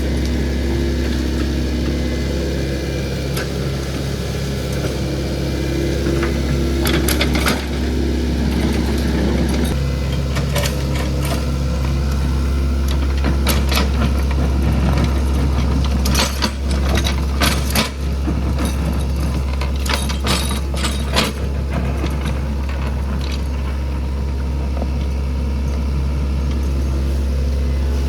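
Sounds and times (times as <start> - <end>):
excavator engine droning: 0.0 - 28.0.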